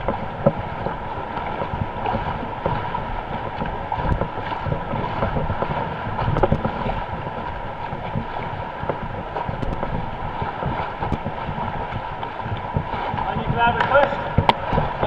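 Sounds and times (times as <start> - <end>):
knocks on canoe: 0.0 - 15.0
water splashing around canoe: 0.0 - 15.0
wind rumbling on microphone: 0.0 - 15.0.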